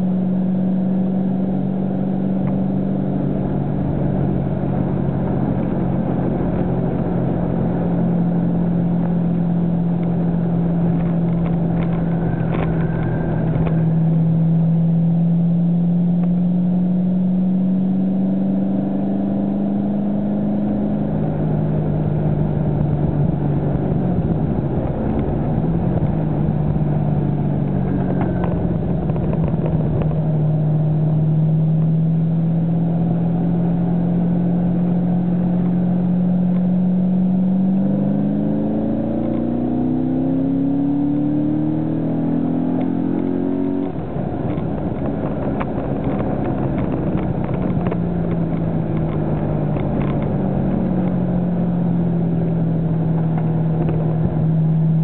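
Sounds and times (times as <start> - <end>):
car engine accelerating: 0.0 - 55.0
road noise: 0.0 - 55.0
wind noise: 0.0 - 55.0.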